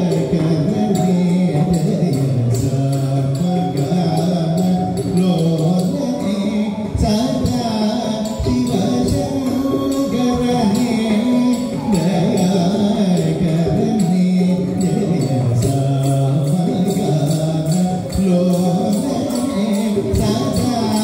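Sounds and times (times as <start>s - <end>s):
hand drum playing: 0.0s - 21.0s
person singing: 0.0s - 21.0s.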